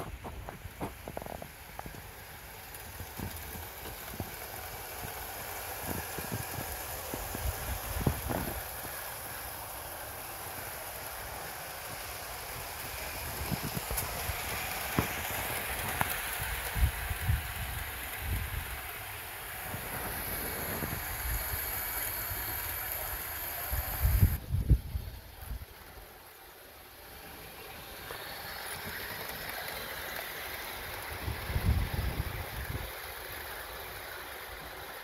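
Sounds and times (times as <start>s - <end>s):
model train rattling on track: 0.0s - 35.0s.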